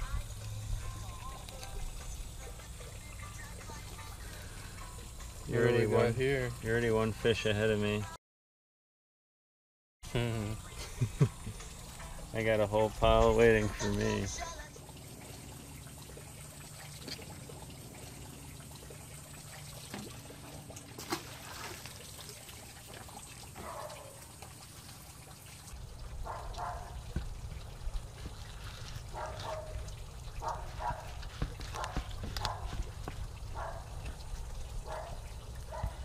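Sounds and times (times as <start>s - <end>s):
water trickling: 0.0s - 8.1s, 10.1s - 36.0s.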